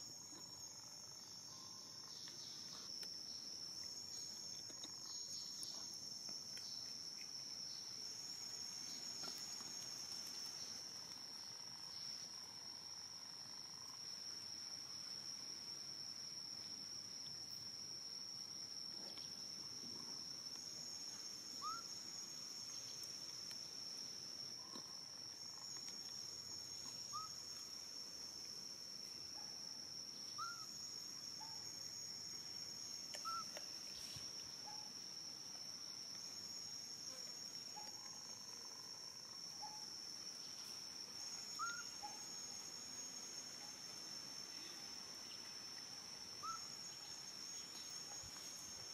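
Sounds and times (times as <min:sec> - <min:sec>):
high-pitched insect drone: 0:00.0 - 0:34.8, 0:35.8 - 0:48.9.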